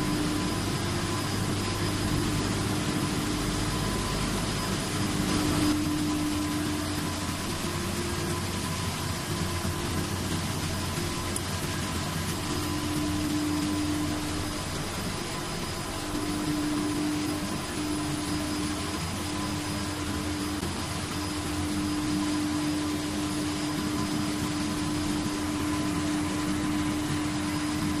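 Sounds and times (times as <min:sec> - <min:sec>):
machine hum and rush: 0:00.0 - 0:28.0
steady droning tone: 0:00.0 - 0:28.0.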